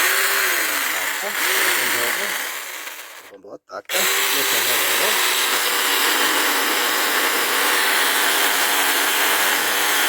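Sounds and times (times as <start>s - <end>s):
mini chainsaw cutting wood: 0.0s - 10.0s.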